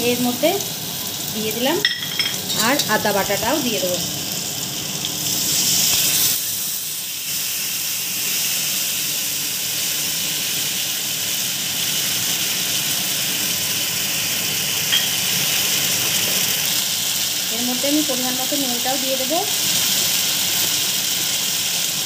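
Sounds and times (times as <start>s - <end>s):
masala sizzling in hot oil: 0.0s - 22.0s.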